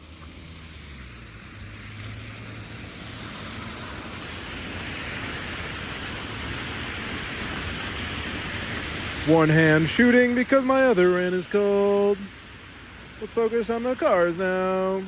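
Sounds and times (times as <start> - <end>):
low engine hum: 0.0 - 15.0
street traffic: 0.0 - 15.0.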